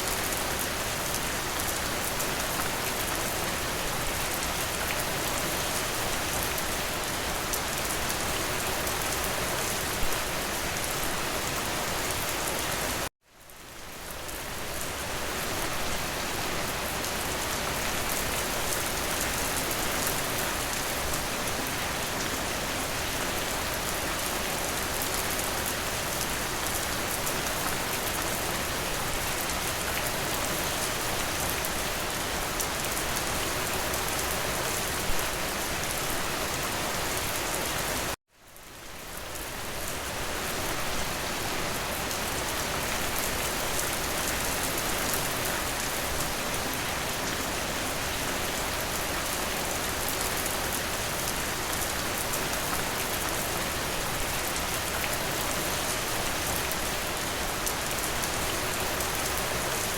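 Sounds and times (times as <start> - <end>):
steady dense rainfall: 0.0 - 59.9.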